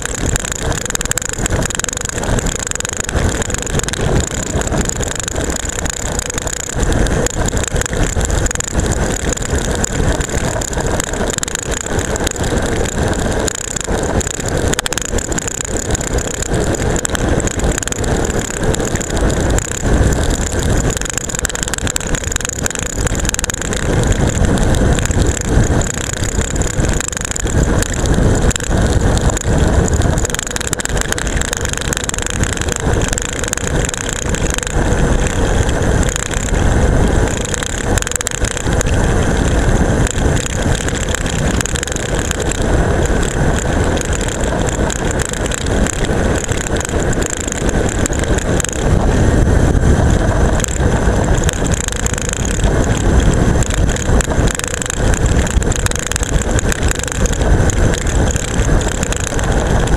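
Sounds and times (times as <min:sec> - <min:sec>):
camera rattling: 0:00.0 - 0:59.9
wind on microphone: 0:00.0 - 0:59.9.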